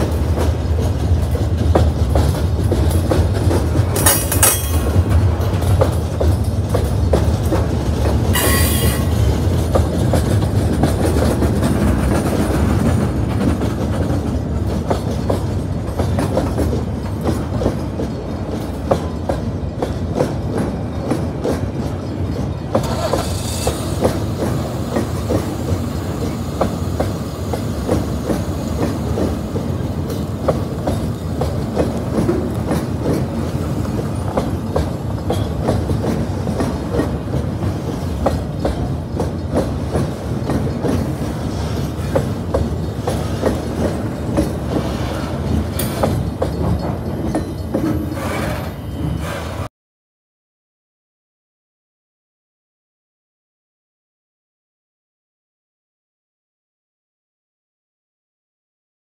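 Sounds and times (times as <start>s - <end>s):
wheels clicking over rail joints: 0.0s - 49.4s
freight train rumbling past: 0.0s - 49.7s.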